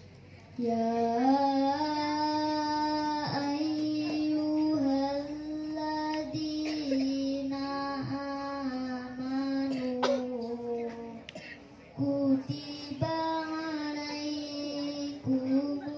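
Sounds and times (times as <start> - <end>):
girl chanting recitation: 0.5 - 15.9.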